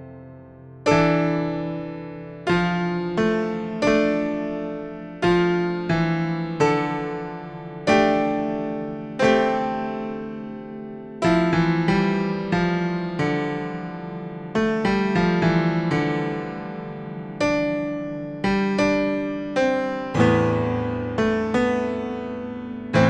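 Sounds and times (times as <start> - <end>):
slow piano notes and chords: 0.0 - 23.0.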